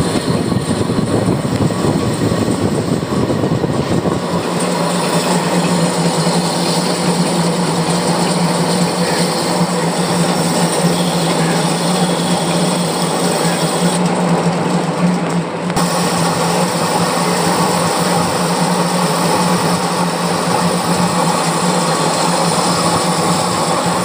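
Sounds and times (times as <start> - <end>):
lathe tool cutting metal: 0.0 - 24.0
metal lathe humming: 0.0 - 24.0.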